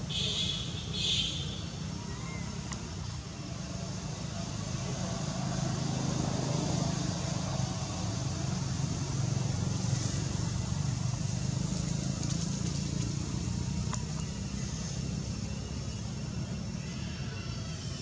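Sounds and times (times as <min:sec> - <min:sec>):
distant engine drone: 0:00.0 - 0:18.0.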